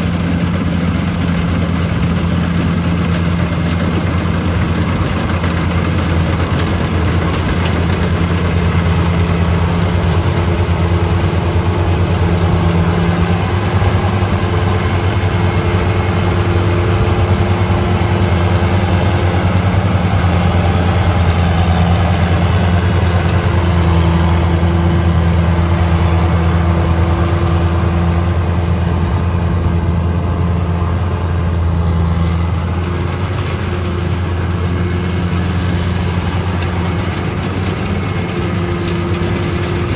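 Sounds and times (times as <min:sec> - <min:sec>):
combine harvester diesel engine droning: 0:00.0 - 0:39.9
threshing machinery running: 0:00.0 - 0:39.9.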